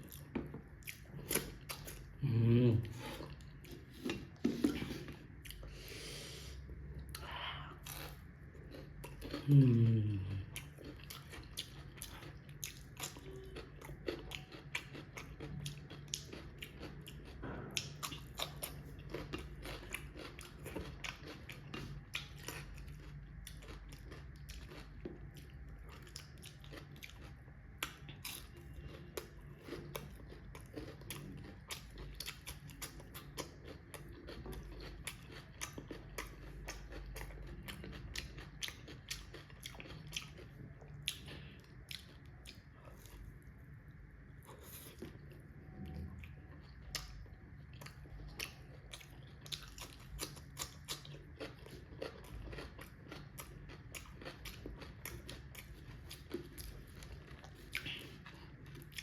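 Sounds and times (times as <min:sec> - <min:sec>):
low steady hum: 0:00.0 - 0:59.0
person chewing and crunching: 0:00.0 - 0:59.0.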